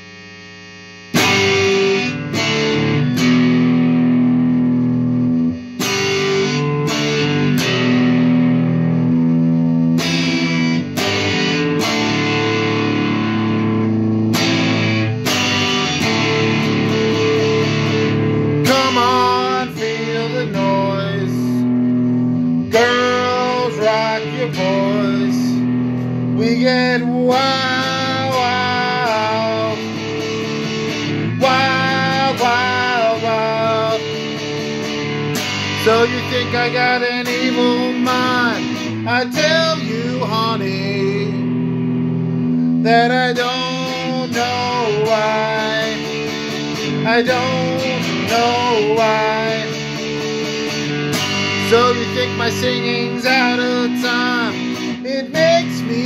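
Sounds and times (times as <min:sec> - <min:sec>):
electric guitar strumming rock riff: 0:01.1 - 0:56.0
person singing: 0:01.2 - 0:41.6, 0:42.2 - 0:56.0.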